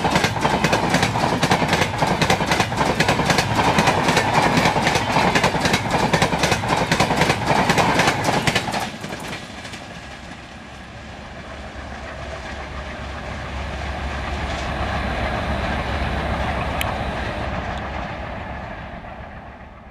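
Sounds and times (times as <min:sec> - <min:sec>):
train wheels rumbling on track: 0:00.0 - 0:19.9.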